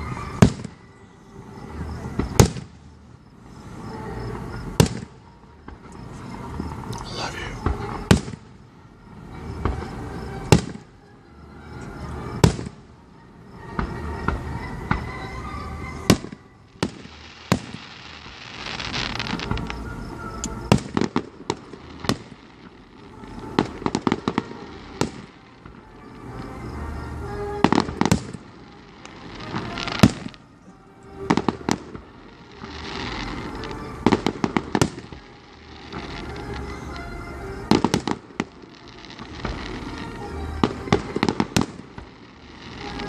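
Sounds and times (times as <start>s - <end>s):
fireworks booms and bangs: 0.0s - 0.9s, 1.5s - 8.7s, 9.4s - 10.9s, 12.2s - 43.0s
fireworks crackling: 0.0s - 43.0s.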